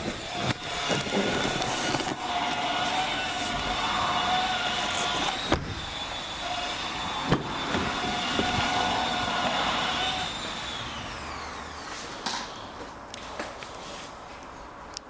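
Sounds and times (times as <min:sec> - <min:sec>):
car mechanical whine: 0:00.0 - 0:13.3.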